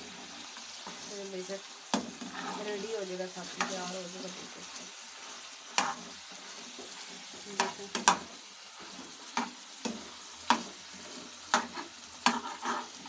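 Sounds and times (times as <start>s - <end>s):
chicken sizzling in pan: 0.0s - 13.0s
metal spoon scraping pan: 1.9s - 13.0s.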